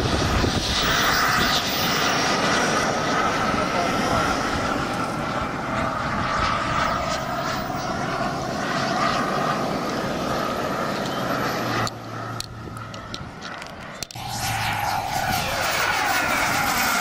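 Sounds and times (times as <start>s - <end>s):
model jet turbine whine: 0.0s - 17.0s.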